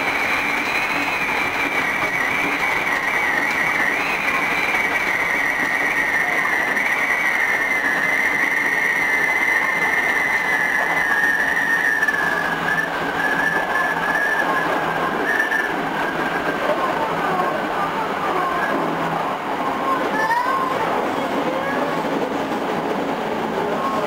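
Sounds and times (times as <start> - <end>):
electric train running on rails: 0.0 - 24.0.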